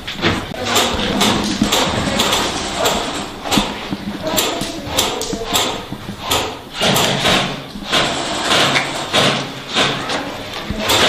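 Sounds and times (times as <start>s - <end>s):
crunching footsteps: 0.0s - 11.0s.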